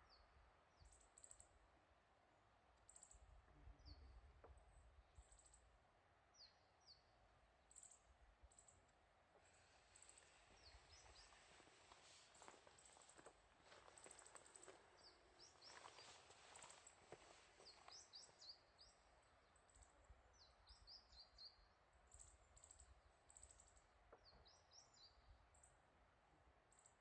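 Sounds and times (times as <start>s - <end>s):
small birds chirping: 2.8s - 5.7s, 6.3s - 8.8s, 9.4s - 25.8s.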